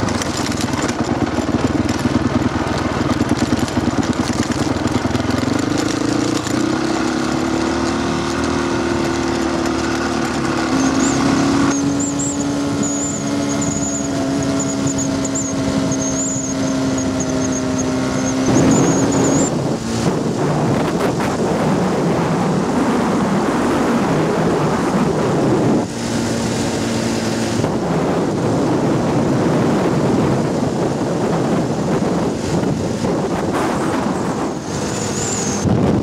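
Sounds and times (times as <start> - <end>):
dirt bike engine running: 0.0 - 36.0.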